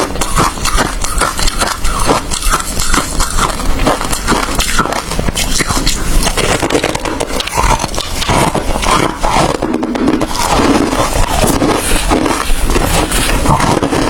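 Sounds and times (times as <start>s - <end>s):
ice being chewed: 0.0s - 14.0s.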